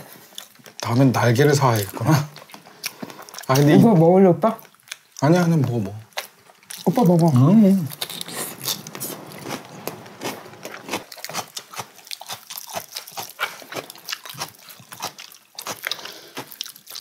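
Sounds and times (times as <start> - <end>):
people chewing and lip smacking: 0.0 - 17.0.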